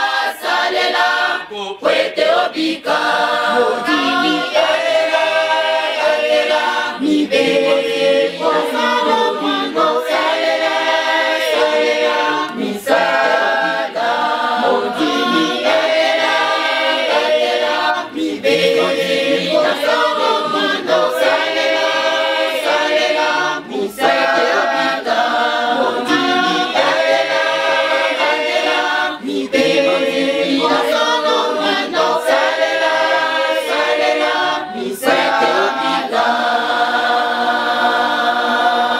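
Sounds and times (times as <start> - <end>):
women's choir singing a cappella: 0.0 - 38.9.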